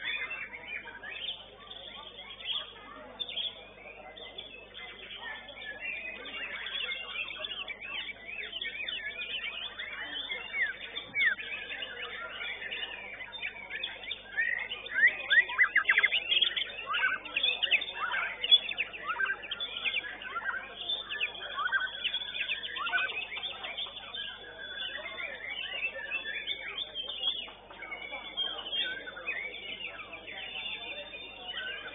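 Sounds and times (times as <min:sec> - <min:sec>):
bird song chirps and whistles: 0:00.0 - 0:31.9.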